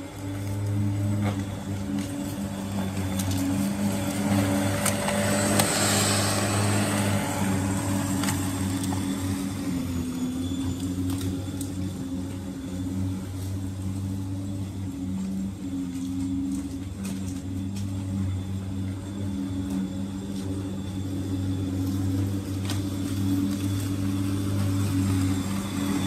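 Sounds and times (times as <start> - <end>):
electric lawn mower cutting grass: 0.0 - 26.0.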